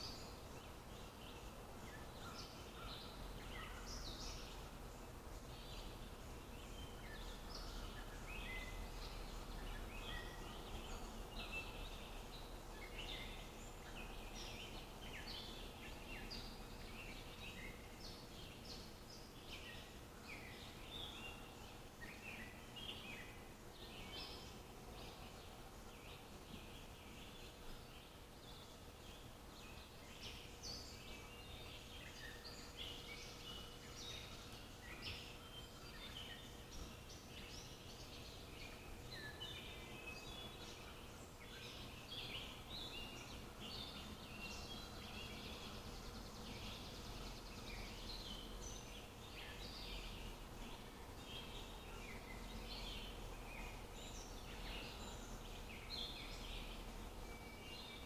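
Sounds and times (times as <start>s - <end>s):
background hiss: 0.0s - 58.0s
small birds chirping: 0.0s - 58.0s.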